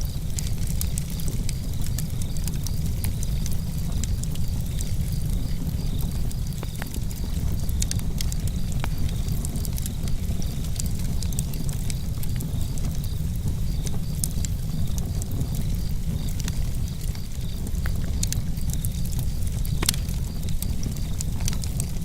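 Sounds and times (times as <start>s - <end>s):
burning wood crackling: 0.0s - 22.0s
campfire rumbling: 0.0s - 22.0s
crickets chirping: 0.0s - 22.0s.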